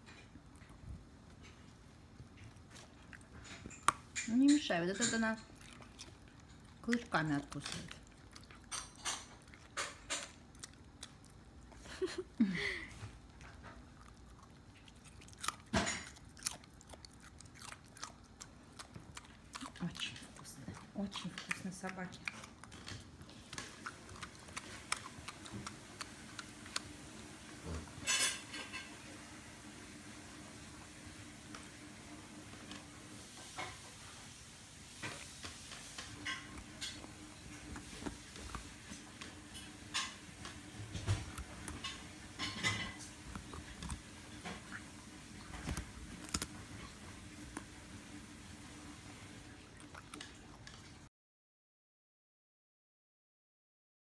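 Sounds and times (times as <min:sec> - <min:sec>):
dog crunching a carrot: 0:00.0 - 0:29.0, 0:33.4 - 0:47.8, 0:49.4 - 0:51.1.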